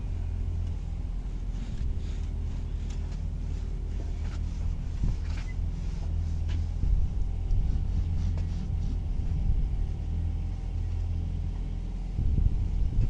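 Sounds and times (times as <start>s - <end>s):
motor rumbling: 0.0s - 13.0s.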